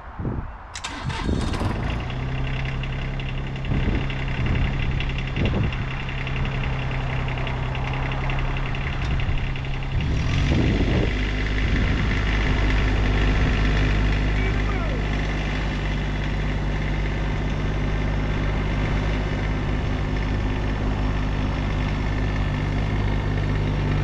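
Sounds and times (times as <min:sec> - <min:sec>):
tractor engine running: 0:00.8 - 0:24.0.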